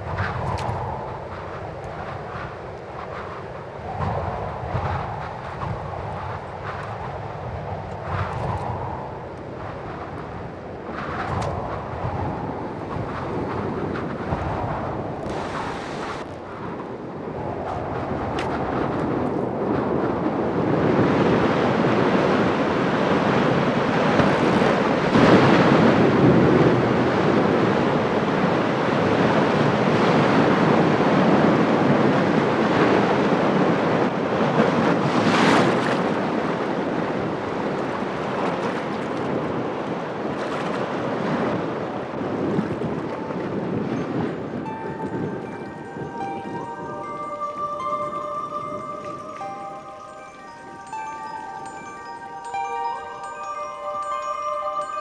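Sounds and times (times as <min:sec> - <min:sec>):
strong wind: 0:00.0 - 0:55.0
waves churning on choppy water: 0:00.0 - 0:55.0.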